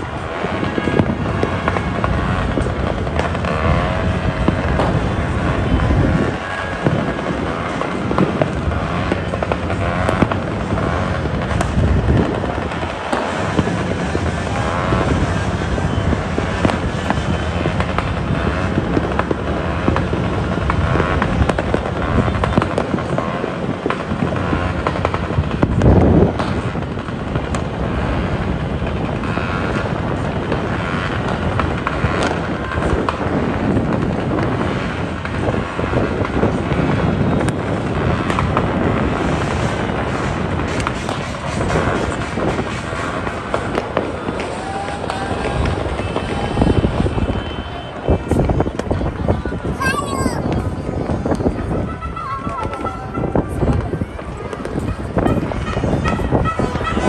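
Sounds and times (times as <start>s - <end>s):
distant fireworks crackling and popping: 0.0s - 57.0s.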